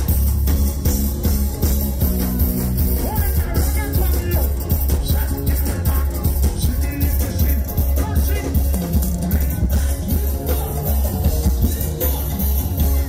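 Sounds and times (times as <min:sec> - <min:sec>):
live carnival band music: 0:00.0 - 0:13.0.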